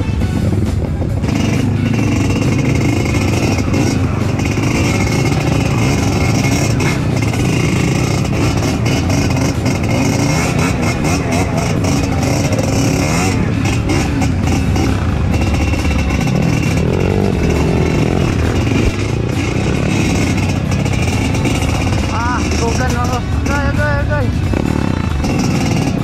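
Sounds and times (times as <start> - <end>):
motorcycle engine revving: 0.0 - 26.0
rushing and clattering noise: 0.0 - 26.0.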